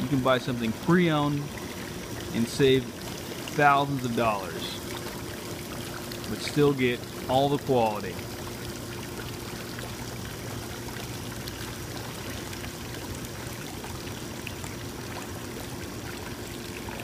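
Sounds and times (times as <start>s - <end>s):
pump hum: 0.0s - 17.0s
water churning and splashing: 0.0s - 17.0s.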